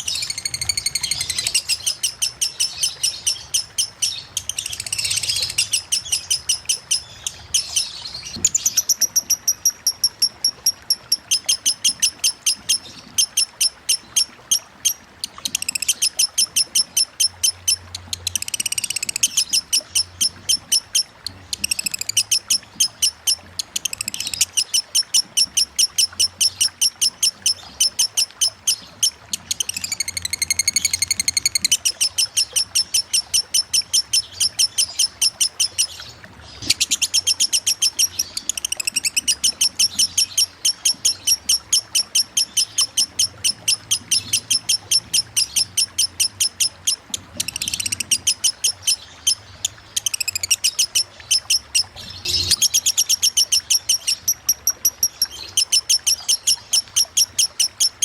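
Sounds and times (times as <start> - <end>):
lovebird chattering song: 0.0 - 58.0
running water hiss: 0.0 - 58.0.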